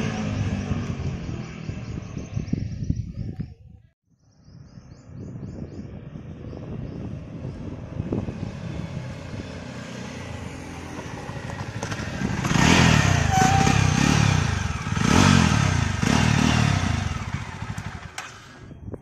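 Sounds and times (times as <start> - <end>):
motorcycle engine approaching: 0.0 - 3.6, 4.9 - 19.0.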